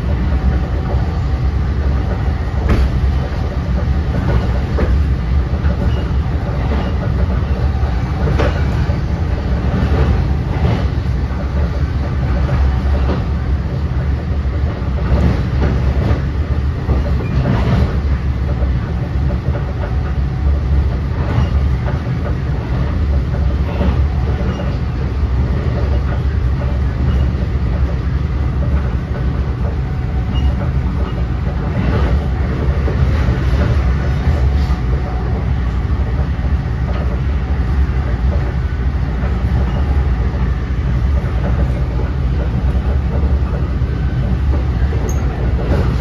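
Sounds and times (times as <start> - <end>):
wheels rumbling on rail: 0.0 - 46.0.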